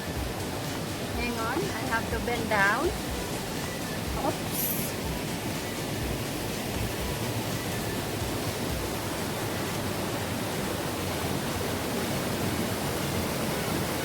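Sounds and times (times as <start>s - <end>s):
cascading creek rushing: 0.0s - 14.0s.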